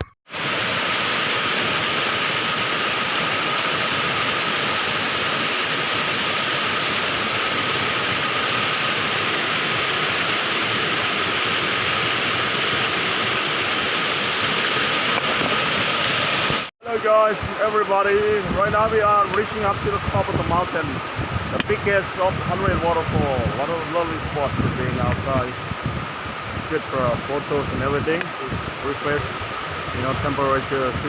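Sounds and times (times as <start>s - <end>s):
waterfall rushing: 0.3s - 31.0s.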